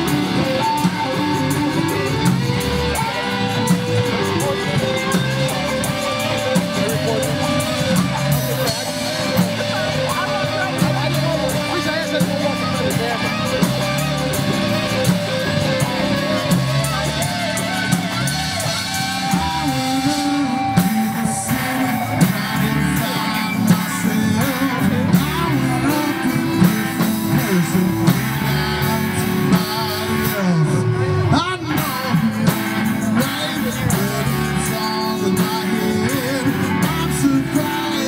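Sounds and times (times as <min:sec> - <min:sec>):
lead vocal singing: 0:00.0 - 0:38.0
rock band playing: 0:00.0 - 0:38.0.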